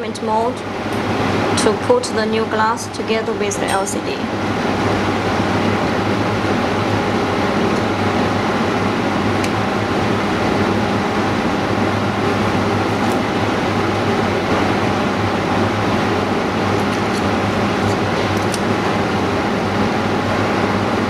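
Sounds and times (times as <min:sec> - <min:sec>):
machinery whirring and humming: 0:00.0 - 0:21.0.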